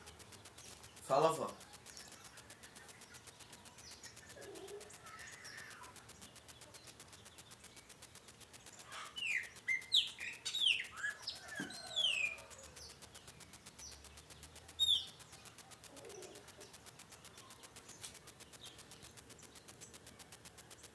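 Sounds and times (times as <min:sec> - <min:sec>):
faint rapid ticking: 0:00.0 - 0:20.9.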